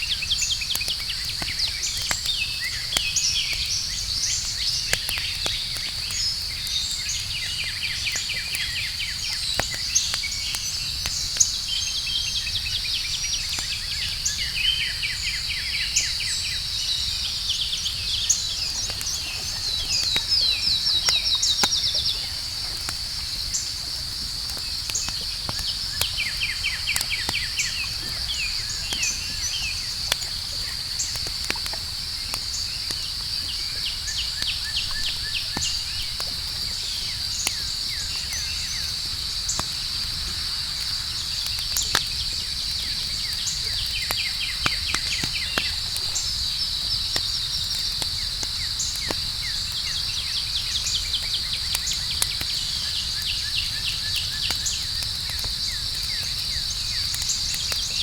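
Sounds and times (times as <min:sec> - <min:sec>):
campfire crackling: 0:00.0 - 0:58.0
cricket-like trills: 0:00.0 - 0:58.0.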